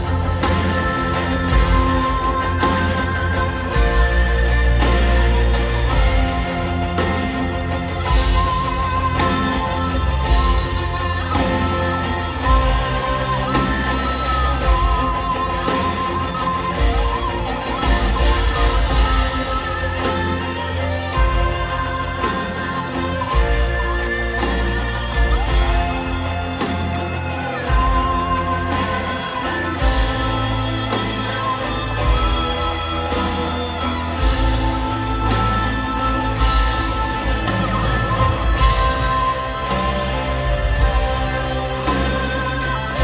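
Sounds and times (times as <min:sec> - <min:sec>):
distorted electric guitar: 0:00.0 - 0:43.0
drums with cymbal strokes: 0:00.0 - 0:43.0
heavy bass line: 0:00.0 - 0:43.0.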